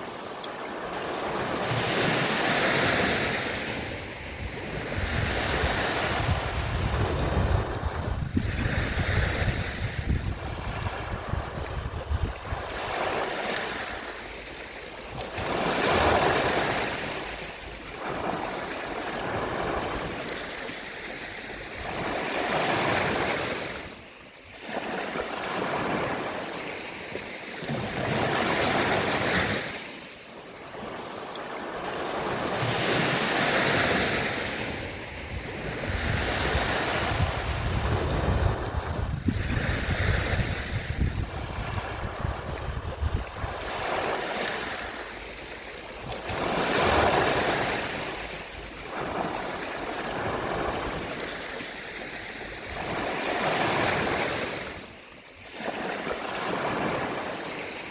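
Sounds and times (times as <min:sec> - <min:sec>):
sea waves washing onto shore: 0:00.0 - 0:57.9.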